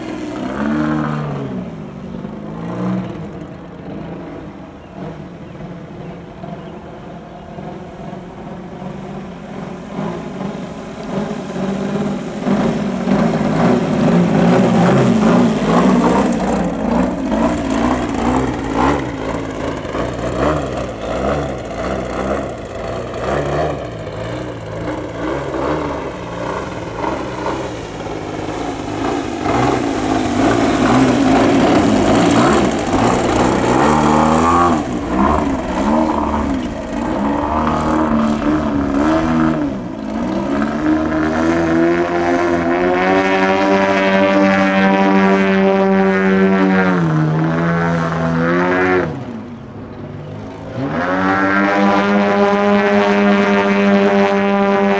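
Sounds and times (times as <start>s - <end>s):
model plane engine and propeller: 0.0s - 54.9s.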